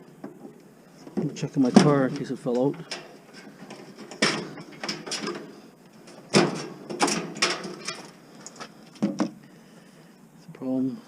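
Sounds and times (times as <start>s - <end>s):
rummaging clattering knocks and scrapes: 0.3s - 9.4s.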